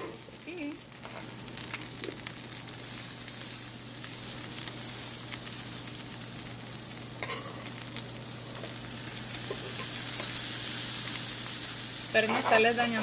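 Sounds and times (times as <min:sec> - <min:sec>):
butter sizzling and crackling: 0:00.0 - 0:13.0.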